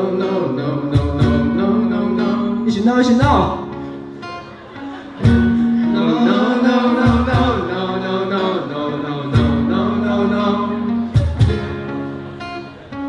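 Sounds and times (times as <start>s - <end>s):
guitar chords: 0.0s - 13.0s.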